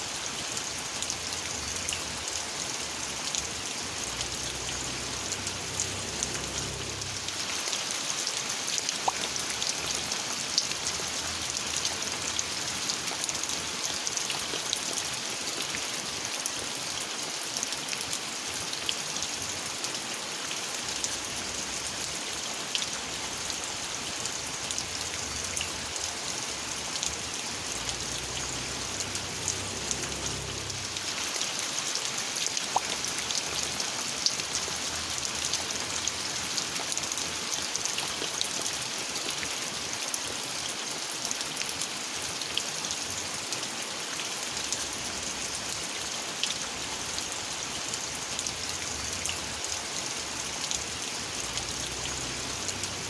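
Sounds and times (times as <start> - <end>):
separate raindrops: 0.0 - 53.0
steady rain hiss: 0.0 - 53.0.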